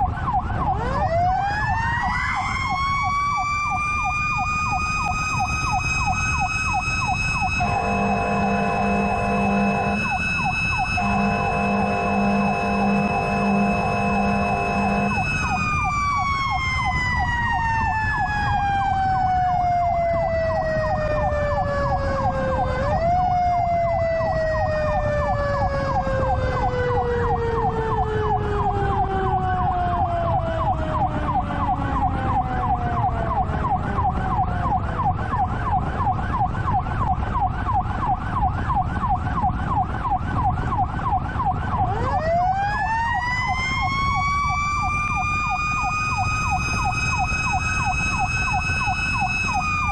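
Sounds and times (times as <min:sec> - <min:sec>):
truck engine and road noise: 0:00.0 - 0:49.9
wailing siren: 0:00.0 - 0:49.9
yelping siren: 0:00.0 - 0:49.9.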